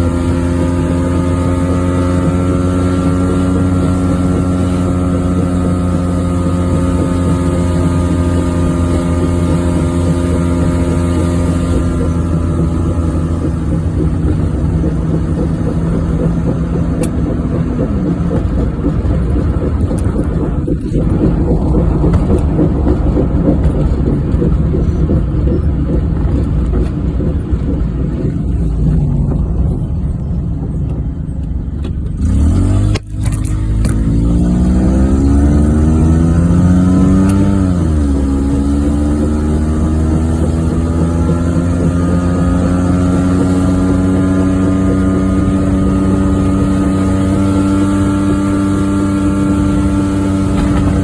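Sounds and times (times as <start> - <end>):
car engine and road drone: 0.0 - 51.0.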